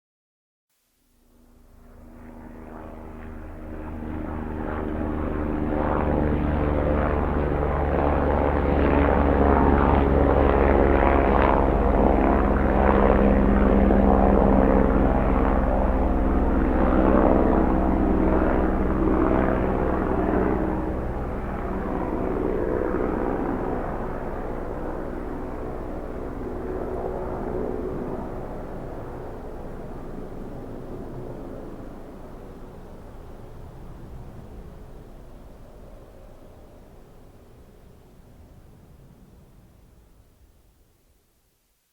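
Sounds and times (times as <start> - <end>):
distant helicopter flying by: 1.2 - 41.0.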